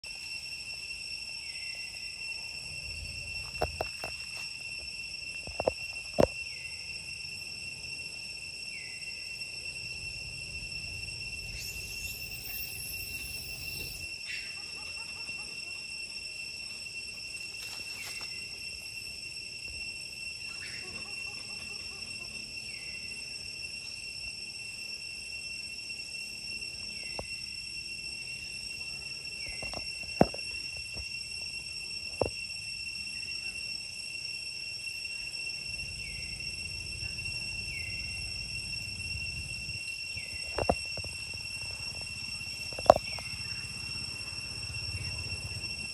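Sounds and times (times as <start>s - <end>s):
high-pitched insect drone: 0.0s - 45.9s.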